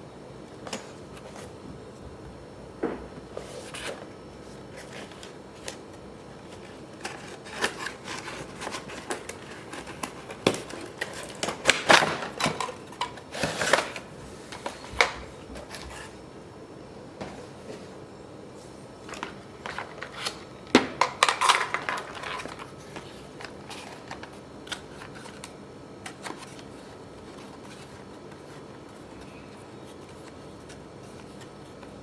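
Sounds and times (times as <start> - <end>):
cardboard and plastic packaging rustling: 3.0 - 16.2, 18.6 - 32.0.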